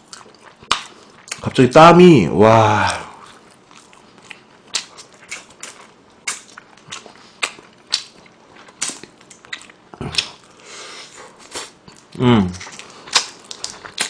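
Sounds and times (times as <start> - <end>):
crunchy chicken being chewed: 0.0 - 1.6, 2.7 - 14.0.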